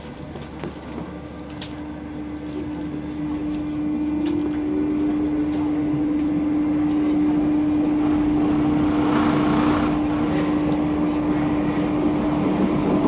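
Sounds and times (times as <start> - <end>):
electric train whine: 0.0 - 13.0
train car running noise: 0.0 - 13.0.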